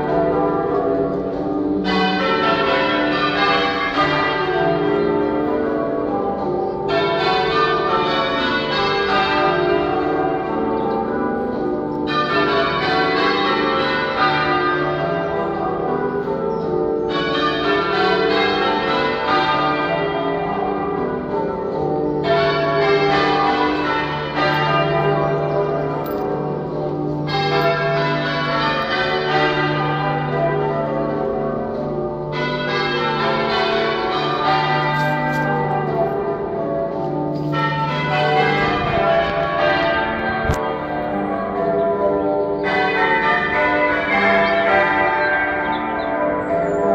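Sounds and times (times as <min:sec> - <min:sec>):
church bells ringing: 0:00.0 - 0:46.9.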